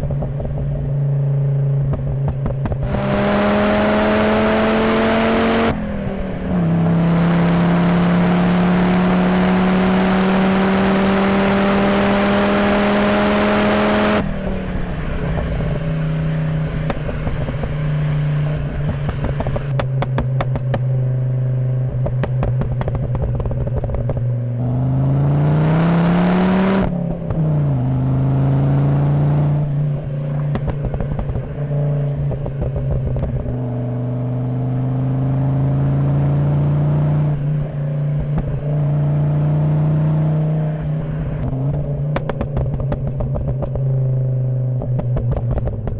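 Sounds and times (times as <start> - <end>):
exhaust crackling and popping: 0.0 - 24.9, 26.4 - 28.1, 29.4 - 34.0, 37.3 - 38.9, 40.9 - 45.9
car engine accelerating: 0.0 - 45.9.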